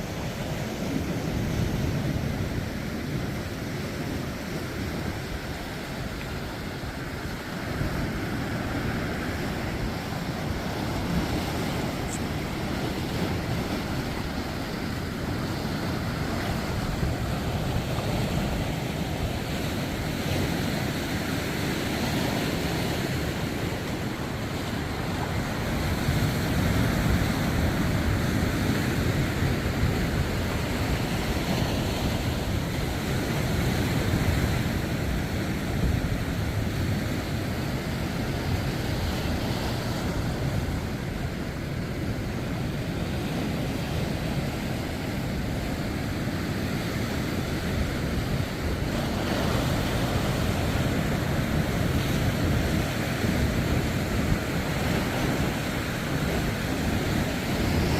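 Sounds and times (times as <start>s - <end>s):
waves breaking on shore: 0.0s - 57.9s
wind buffeting microphone: 0.0s - 57.9s.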